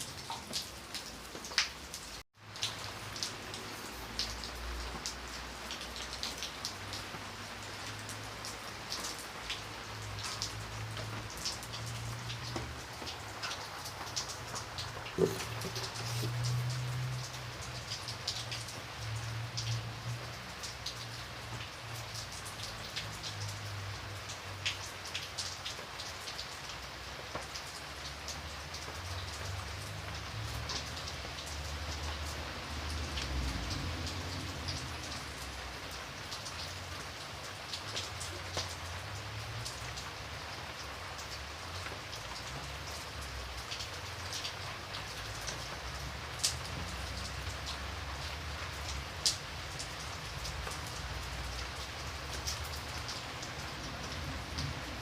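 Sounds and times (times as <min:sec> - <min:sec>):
rain drops ticking: 0:00.0 - 0:55.0
rain hiss: 0:00.0 - 0:55.0.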